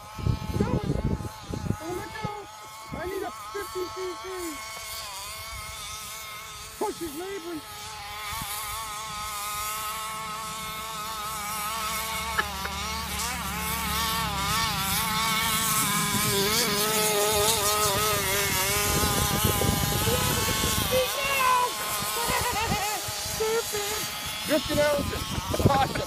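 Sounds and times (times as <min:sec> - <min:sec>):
small two-stroke engine buzzing: 0:00.0 - 0:26.0.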